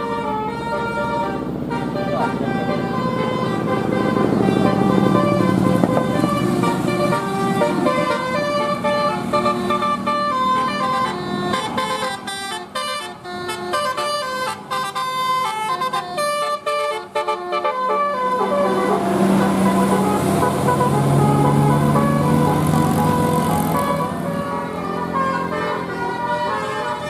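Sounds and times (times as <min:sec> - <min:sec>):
low held horn tone: 0:00.0 - 0:27.0
multi-tone bus horn tune: 0:00.0 - 0:27.0.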